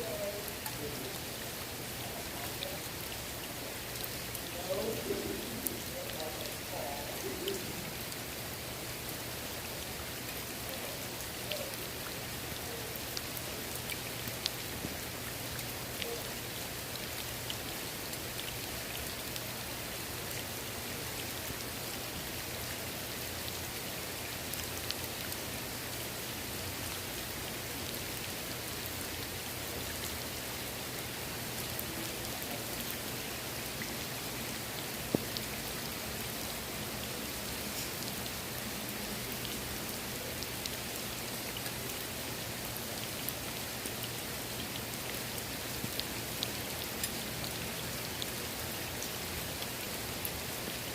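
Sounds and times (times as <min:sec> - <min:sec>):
rain falling on pool water: 0:00.0 - 0:50.9.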